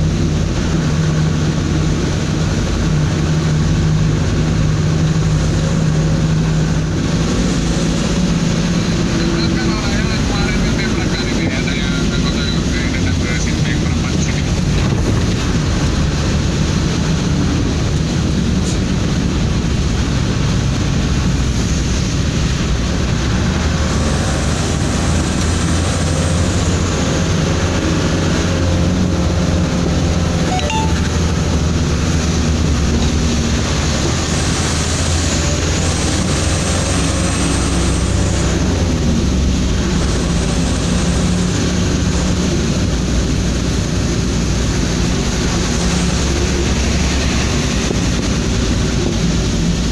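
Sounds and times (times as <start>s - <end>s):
road noise: 0.0s - 49.9s
truck engine drone: 0.0s - 49.9s.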